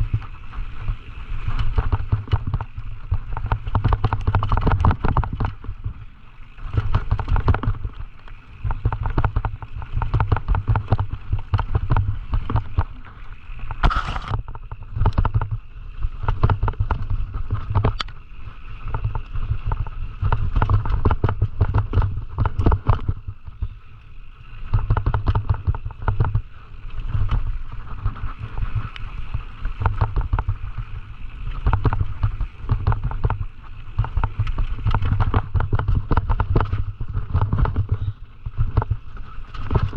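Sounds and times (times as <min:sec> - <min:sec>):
mountain bike rattling over trail: 0:00.0 - 0:39.9.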